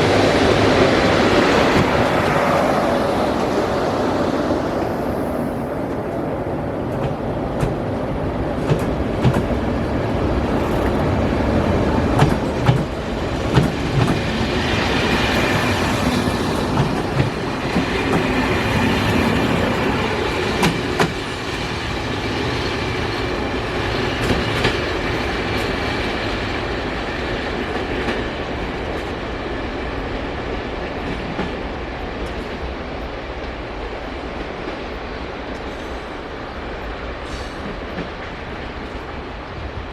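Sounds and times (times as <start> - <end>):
passing train rumble: 0.0 - 39.9.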